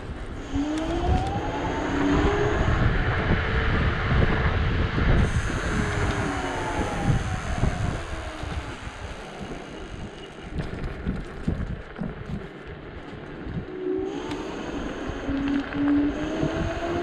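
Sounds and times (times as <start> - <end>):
electric motor whine: 0.0 - 11.5, 13.3 - 17.0
tyres rumbling on road: 0.0 - 17.0
wind buffeting microphone: 0.0 - 17.0.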